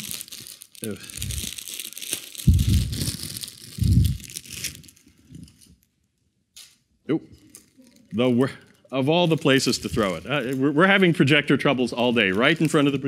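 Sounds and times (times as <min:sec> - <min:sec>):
plastic packaging crinkling: 0:00.0 - 0:06.0, 0:07.4 - 0:13.0.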